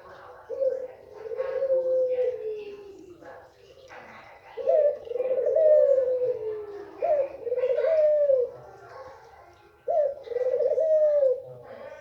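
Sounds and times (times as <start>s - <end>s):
dove cooing: 0.0s - 3.2s, 4.4s - 8.7s, 9.8s - 12.0s.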